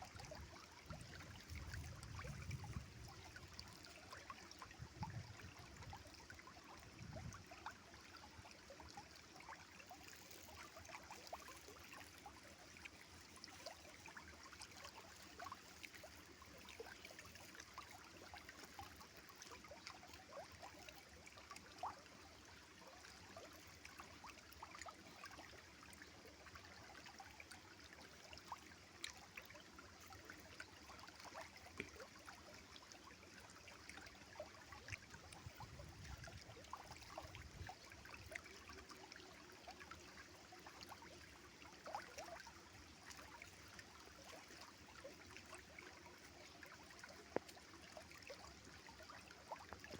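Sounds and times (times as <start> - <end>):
river water running and trickling: 0.0 - 49.9.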